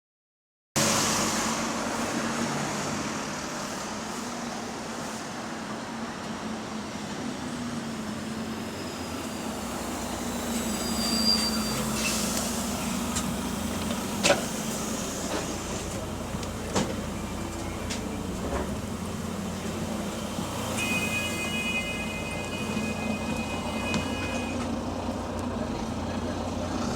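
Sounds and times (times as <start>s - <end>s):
bus engine droning: 0.8s - 26.9s.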